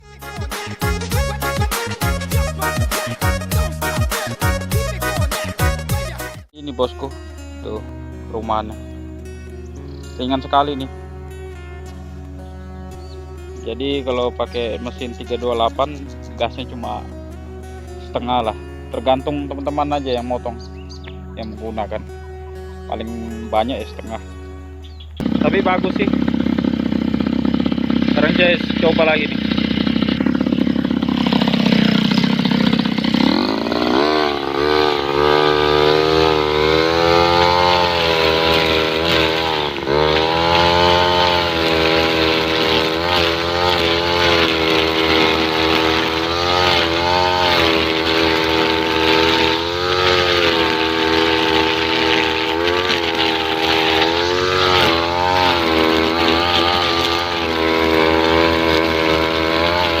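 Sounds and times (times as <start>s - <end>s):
brush cutter engine revving: 0.0s - 7.2s, 9.7s - 22.3s, 22.9s - 60.0s.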